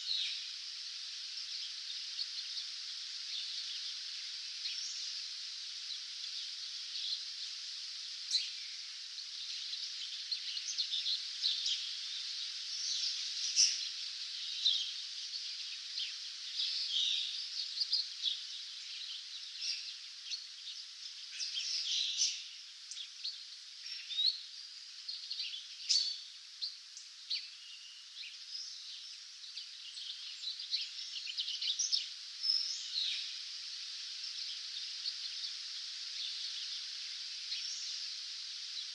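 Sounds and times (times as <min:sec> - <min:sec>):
background birdsong hiss: 0:00.0 - 0:38.9
songbirds chirping and trilling: 0:00.0 - 0:38.9.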